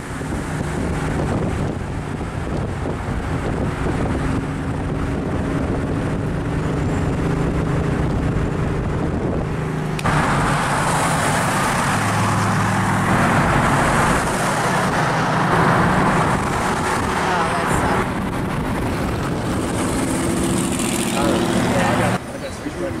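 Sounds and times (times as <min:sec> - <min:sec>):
car engine drone: 0:00.0 - 0:23.0
road noise: 0:00.0 - 0:23.0
wind and road rush: 0:00.0 - 0:23.0.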